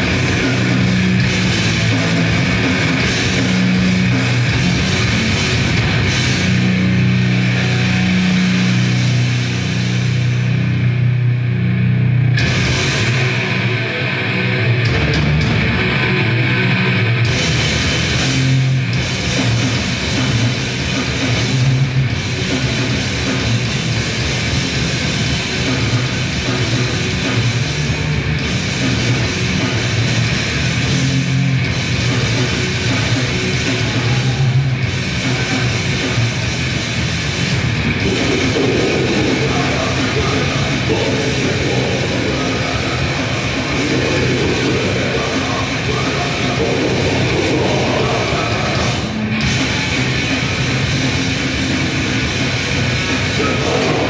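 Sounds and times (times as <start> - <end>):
fast dense drumming: 0.0 - 10.6, 12.4 - 13.6, 17.2 - 54.0
distorted guitars and bass: 0.0 - 54.0.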